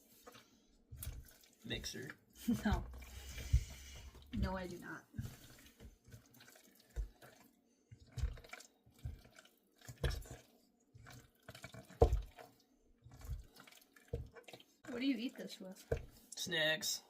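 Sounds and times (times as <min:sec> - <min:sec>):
wet stirring of dip in bowl: 0:00.0 - 0:16.4.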